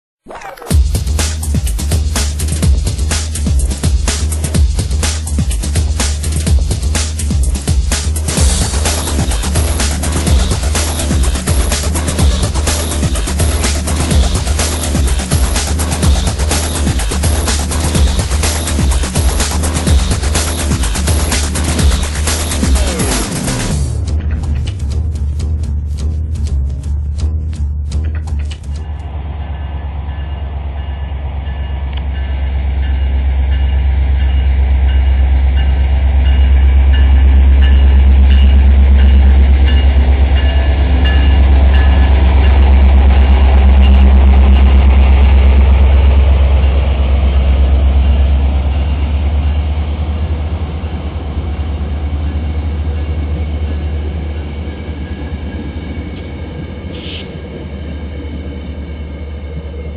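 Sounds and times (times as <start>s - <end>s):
diesel locomotive engine drone: 0.7s - 59.9s
train coaches rolling past: 1.0s - 27.2s, 28.4s - 59.9s.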